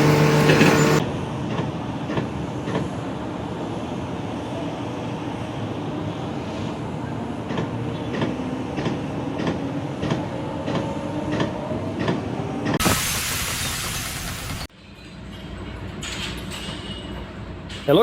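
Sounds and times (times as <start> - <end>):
rail vehicle rumbling: 0.0 - 18.0.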